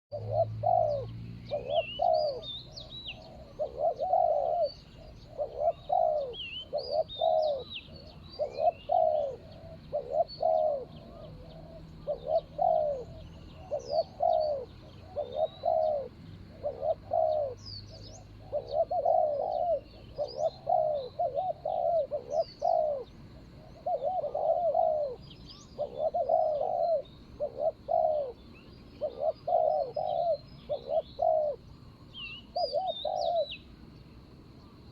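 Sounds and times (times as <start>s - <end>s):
doves cooing: 0.1s - 33.9s
small birds chirping faintly: 0.1s - 34.9s.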